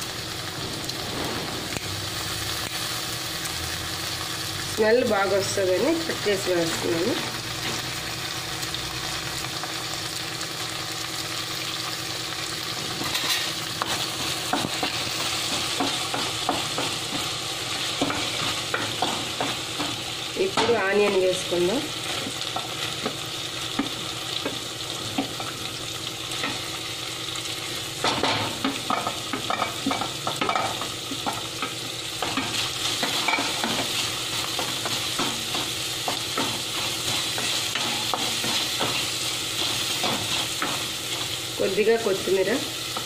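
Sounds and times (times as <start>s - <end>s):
food sizzling in pan: 0.0s - 43.0s.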